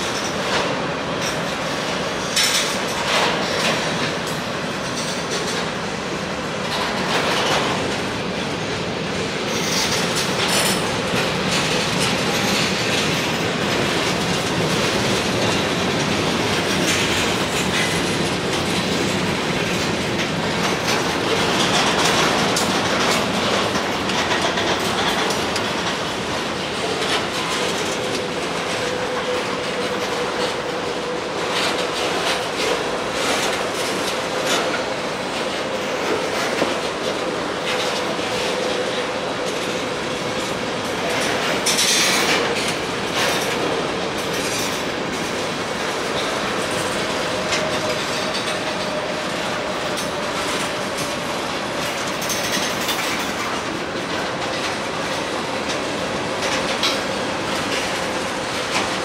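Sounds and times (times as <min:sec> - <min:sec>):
train rolling rumble: 0:00.0 - 0:59.0
train wheels clacking over rail joints: 0:00.0 - 0:59.0.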